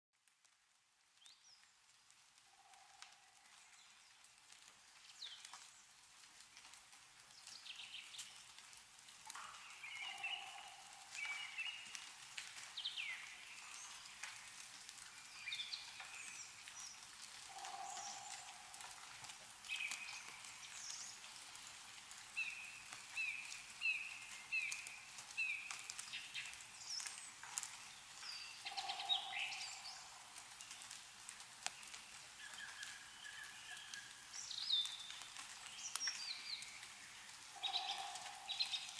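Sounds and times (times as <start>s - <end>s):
dripping meltwater: 0.2s - 38.9s
songbirds chirping: 2.5s - 38.9s.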